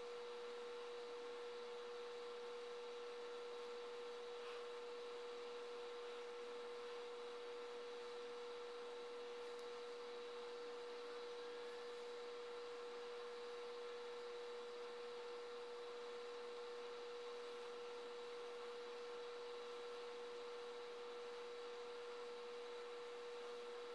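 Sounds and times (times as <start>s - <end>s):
electrical hum: 0.0s - 23.9s.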